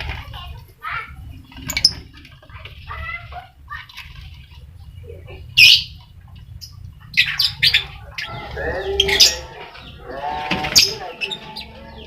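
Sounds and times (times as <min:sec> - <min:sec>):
lovebirds squawking and chattering: 0:00.8 - 0:12.0.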